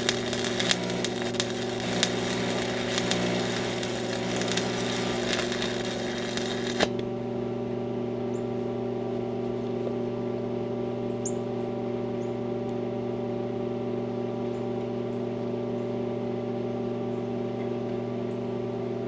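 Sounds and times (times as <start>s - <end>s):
engine humming steadily: 0.0s - 19.0s.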